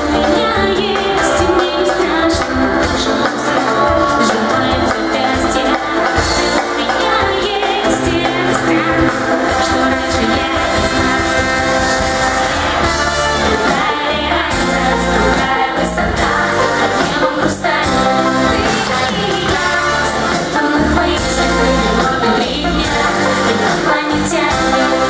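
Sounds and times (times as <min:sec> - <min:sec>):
amplified pop band: 0:00.0 - 0:25.0
woman singing into microphone: 0:00.0 - 0:25.0.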